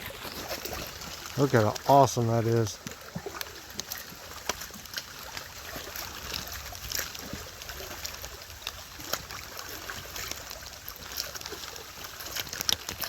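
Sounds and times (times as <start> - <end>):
creek running: 0.0 - 13.0
rain ticking on umbrella: 0.0 - 13.0.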